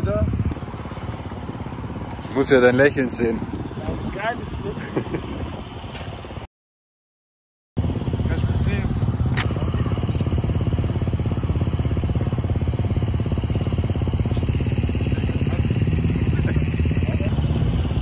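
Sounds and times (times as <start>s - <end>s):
motocross bike engine idling: 0.0s - 5.9s, 7.8s - 17.4s.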